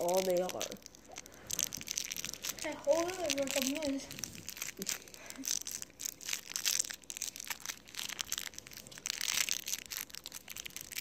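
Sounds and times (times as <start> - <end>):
crinkling and rustling at microphone: 0.0 - 11.0.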